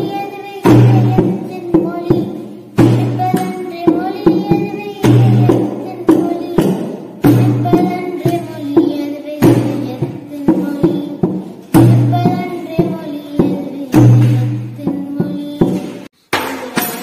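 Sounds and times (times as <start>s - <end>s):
hand drum rhythm: 0.0s - 16.1s.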